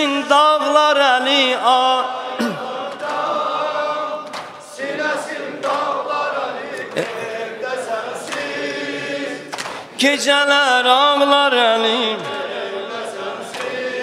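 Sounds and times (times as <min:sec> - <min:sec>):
men singing unaccompanied: 0:00.0 - 0:14.0.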